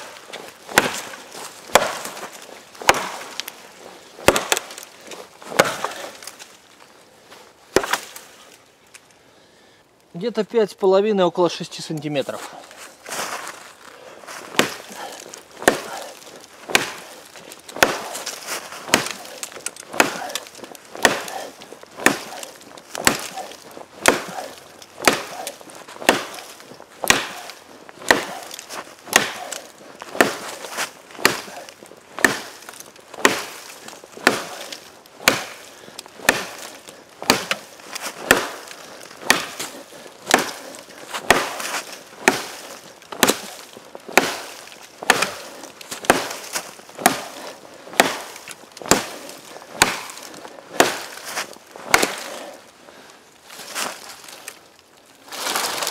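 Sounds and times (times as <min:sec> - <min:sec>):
blade chopping wood: 0:00.0 - 0:03.6, 0:04.2 - 0:06.6, 0:07.7 - 0:08.3, 0:14.4 - 0:52.6.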